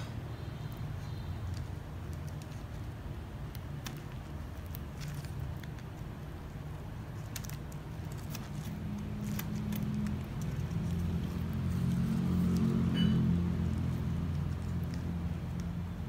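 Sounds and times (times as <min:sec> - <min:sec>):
hands wrapping wire clicks: 0:00.8 - 0:16.0.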